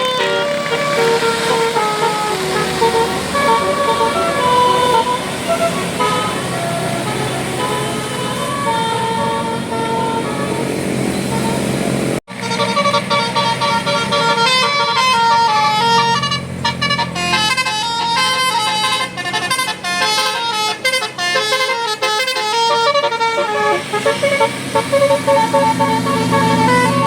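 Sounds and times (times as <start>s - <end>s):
bus musical horn tune: 0.0s - 27.0s.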